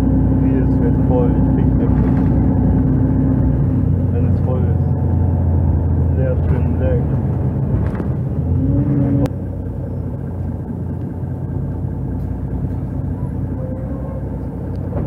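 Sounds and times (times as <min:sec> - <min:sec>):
bus engine: 0:00.0 - 0:15.0
rising whine: 0:00.0 - 0:15.0.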